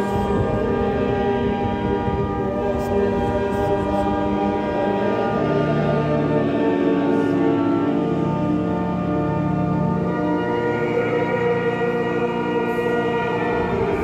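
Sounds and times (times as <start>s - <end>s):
church organ chords: 0.0s - 14.0s.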